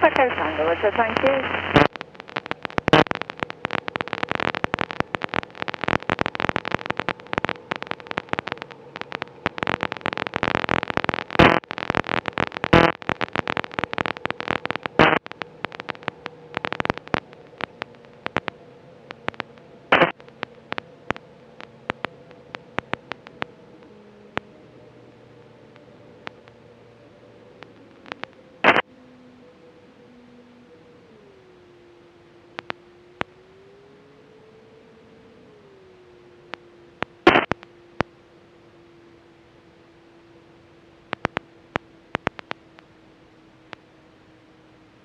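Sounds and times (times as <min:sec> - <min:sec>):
radio static crackling: 0:00.0 - 0:28.9, 0:30.9 - 0:34.3, 0:35.8 - 0:38.2, 0:39.2 - 0:45.0
faint steady tone: 0:00.0 - 0:45.0.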